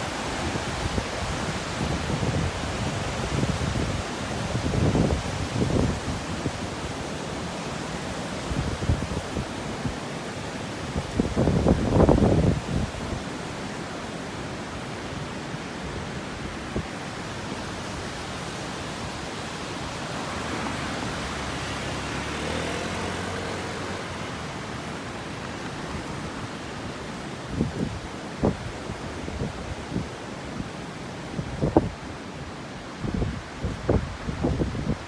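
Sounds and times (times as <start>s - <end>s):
flooded river rushing: 0.0s - 35.0s.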